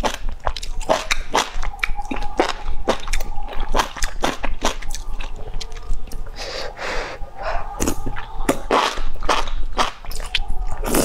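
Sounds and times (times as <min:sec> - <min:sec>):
wet chewing and mouth smacks: 0:00.0 - 0:06.6, 0:07.4 - 0:11.0.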